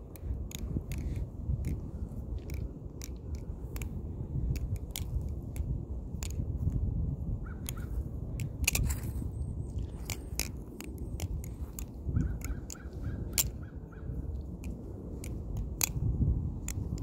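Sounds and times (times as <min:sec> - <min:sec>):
butterfly knife clicking: 0:00.0 - 0:06.8, 0:07.6 - 0:17.0.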